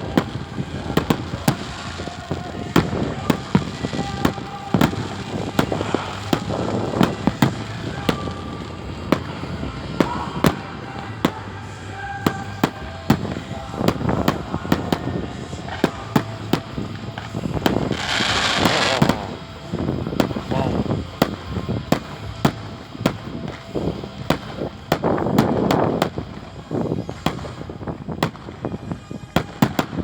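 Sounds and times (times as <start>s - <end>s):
firecracker and rocket bangs: 0.0s - 30.0s
hissing crackling firework burst: 0.0s - 30.0s.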